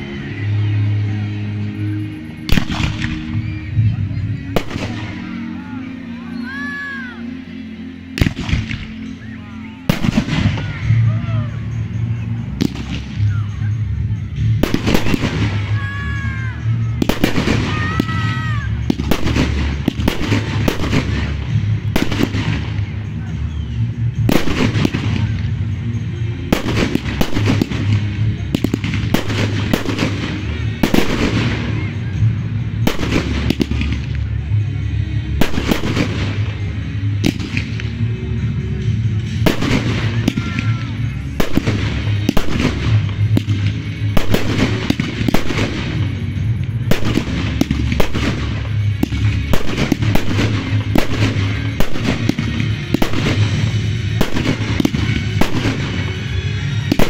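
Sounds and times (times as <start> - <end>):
music: 0.0 - 57.0
fireworks bursting with sharp bangs: 2.4 - 3.7, 4.4 - 5.7, 8.1 - 13.6, 14.4 - 34.6, 35.2 - 57.0.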